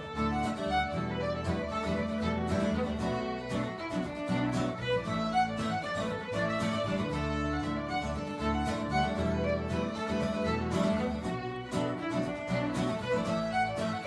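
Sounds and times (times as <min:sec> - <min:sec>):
fiddle playing folk tune: 0:00.0 - 0:14.0
guitar accompaniment: 0:00.0 - 0:14.0.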